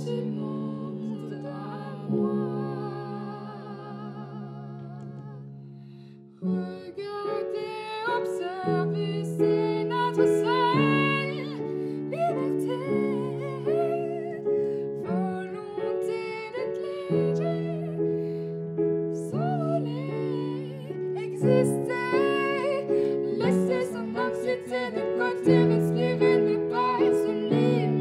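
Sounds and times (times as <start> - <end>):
slow background music: 0.0 - 28.0.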